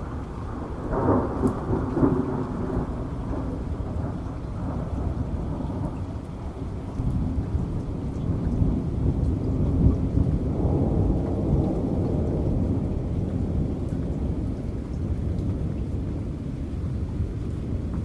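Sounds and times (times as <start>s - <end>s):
low rumble of thunder: 0.0s - 18.0s
steady rain: 0.0s - 18.0s.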